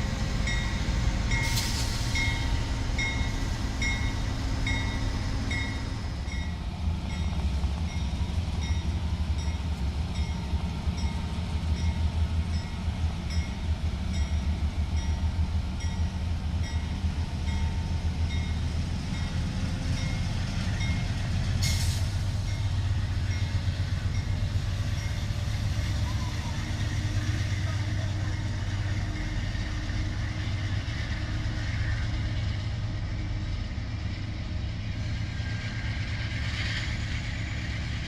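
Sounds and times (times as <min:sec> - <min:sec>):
train rumbling on tracks: 0:00.0 - 0:38.0.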